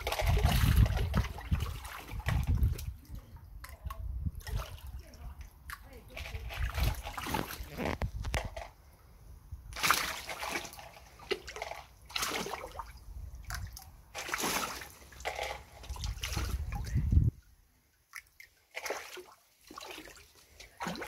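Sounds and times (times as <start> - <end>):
fish splashing at water surface: 0.0 - 5.0, 5.7 - 7.7, 9.7 - 17.1, 18.1 - 21.0.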